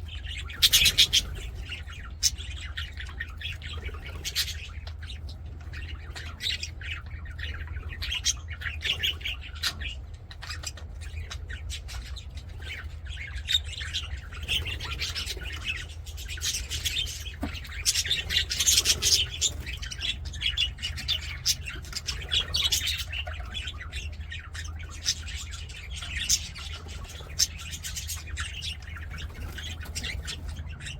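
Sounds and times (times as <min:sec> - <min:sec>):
budgerigars chirping and squawking: 0:00.0 - 0:30.9.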